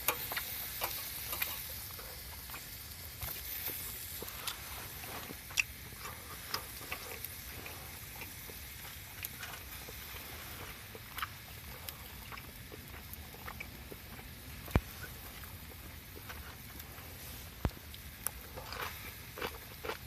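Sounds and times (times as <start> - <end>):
low steady fire hiss: 0.0 - 20.0
wood fire crackling and popping: 0.0 - 20.0.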